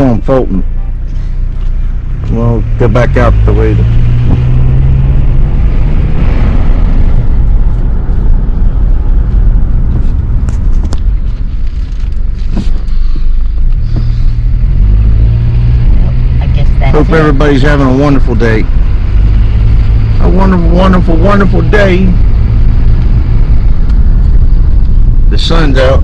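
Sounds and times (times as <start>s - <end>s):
car engine hum: 0.0s - 26.0s
road noise: 0.0s - 26.0s.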